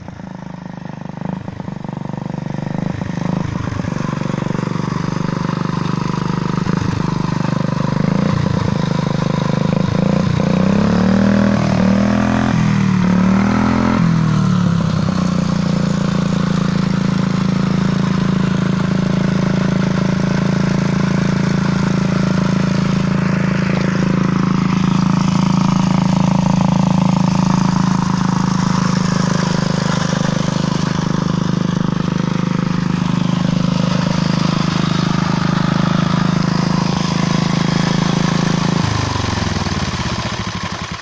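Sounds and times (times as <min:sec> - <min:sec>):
small engine revving and idling: 0:00.0 - 0:41.0.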